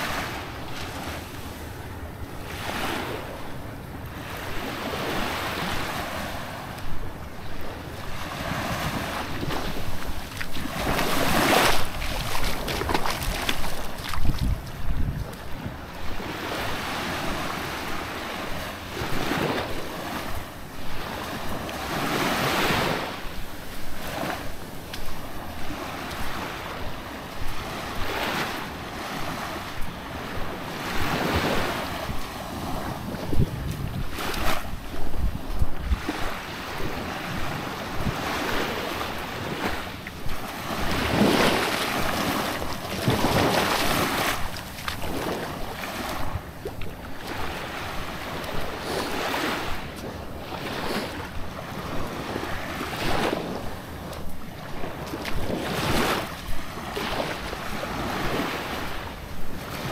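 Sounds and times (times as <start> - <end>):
small waves lapping on shore: 0.0 - 59.9
wind rumbling on microphone: 0.0 - 59.9.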